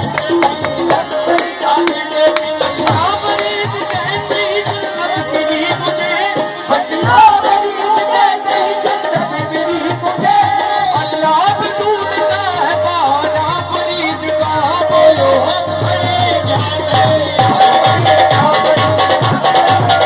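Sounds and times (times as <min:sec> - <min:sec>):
hand drum beat: 0:00.0 - 0:12.6, 0:13.4 - 0:20.0.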